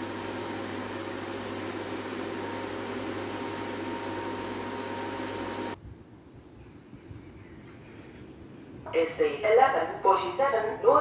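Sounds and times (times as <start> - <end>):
fan unit humming: 0.0 - 11.0.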